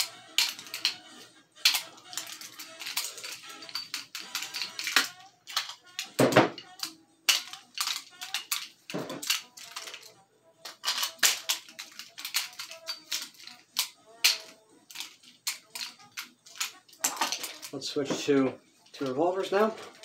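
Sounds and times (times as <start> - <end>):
toy revolvers clicking and clacking: 0.0 - 20.0.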